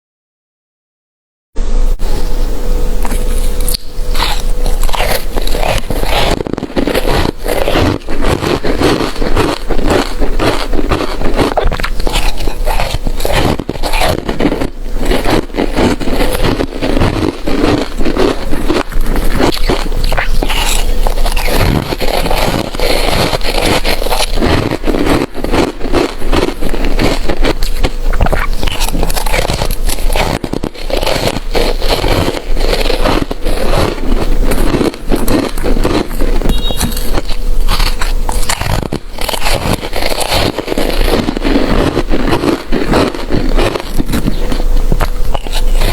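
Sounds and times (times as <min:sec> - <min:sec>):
person chewing ice: 0:03.0 - 0:45.9.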